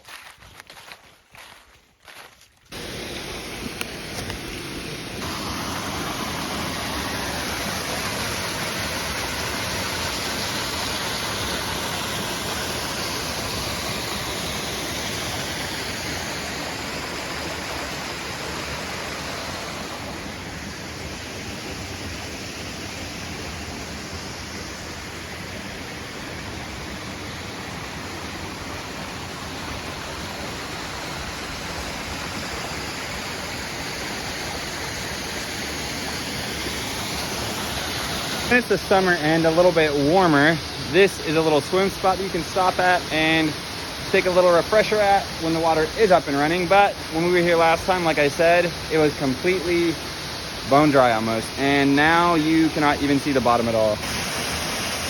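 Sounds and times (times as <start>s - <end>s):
creek rushing: 0.1s - 55.0s.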